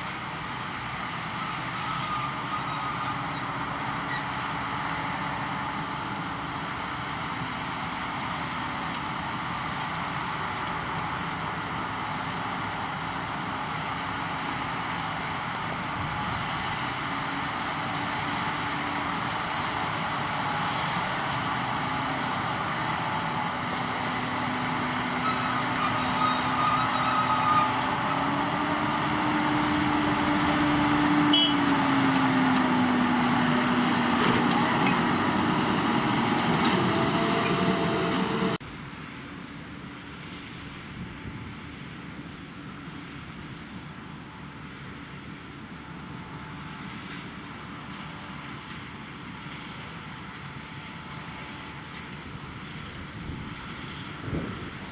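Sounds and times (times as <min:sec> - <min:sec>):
diesel farm machinery running: 0:00.0 - 0:54.9.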